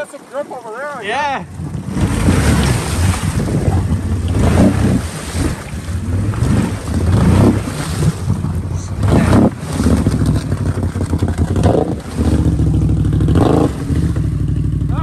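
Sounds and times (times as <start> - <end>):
tires churning through mud and water: 0.0 - 15.0
atv engine revving: 1.4 - 15.0.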